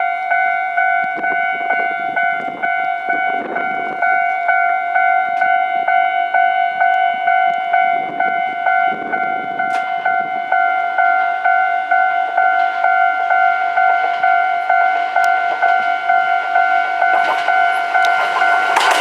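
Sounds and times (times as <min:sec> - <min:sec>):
level-crossing warning bell: 0:00.0 - 0:19.0.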